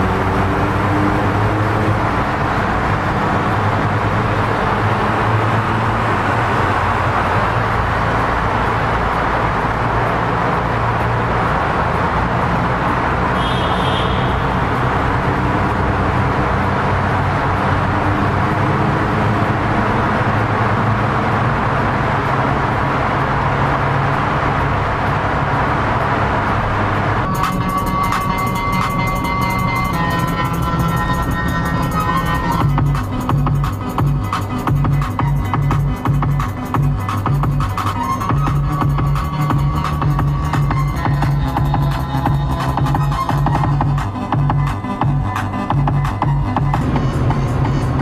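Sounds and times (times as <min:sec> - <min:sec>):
car engines in traffic: 0:00.0 - 0:48.0.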